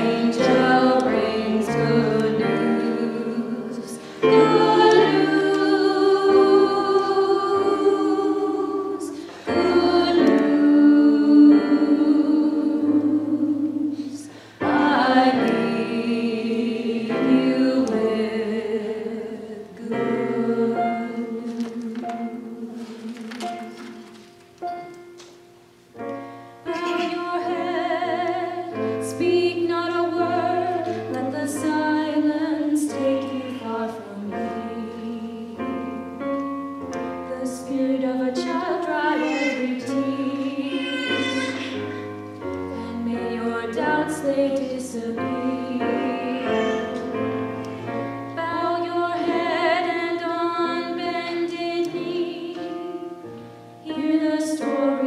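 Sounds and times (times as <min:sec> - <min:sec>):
voices singing a hymn: 0:00.0 - 0:24.2, 0:26.6 - 0:36.4, 0:37.3 - 0:55.0
keyboard accompaniment: 0:00.0 - 0:55.0.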